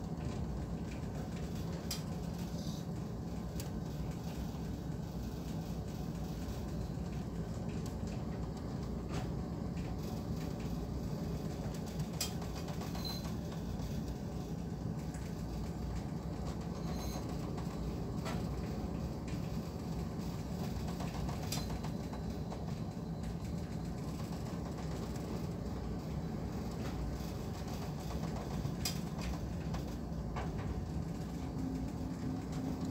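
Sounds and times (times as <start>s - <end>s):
ship rumble and wash: 0.0s - 32.9s.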